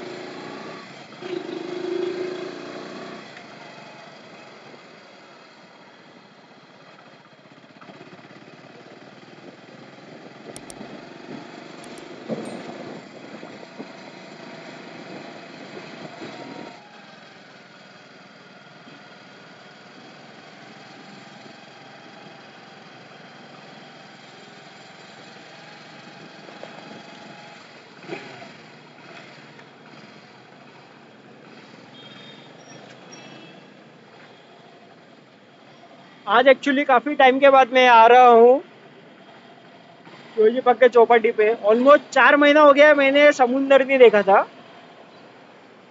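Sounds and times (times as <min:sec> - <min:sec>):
road and traffic noise: 0:00.0 - 0:45.9.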